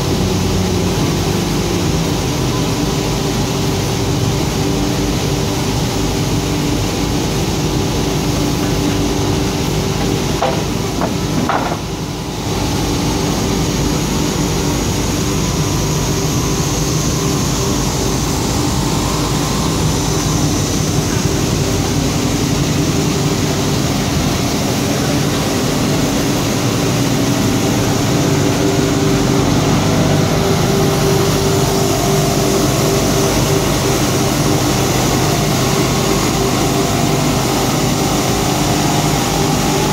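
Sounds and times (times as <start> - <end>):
polishing machine motor hum: 4.6 - 39.9.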